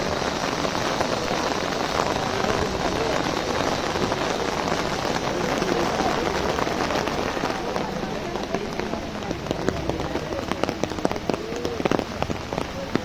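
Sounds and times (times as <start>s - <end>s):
heavy rain on an umbrella: 0.0s - 13.0s.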